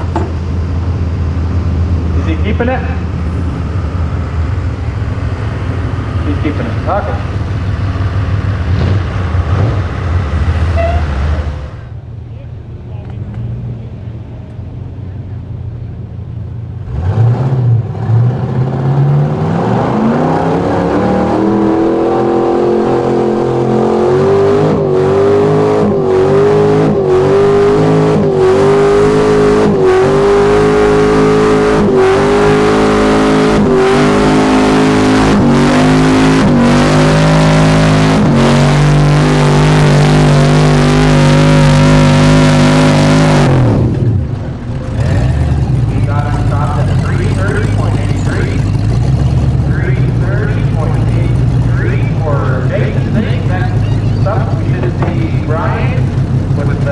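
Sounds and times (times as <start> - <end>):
truck engine revving high: 0.0 - 56.9.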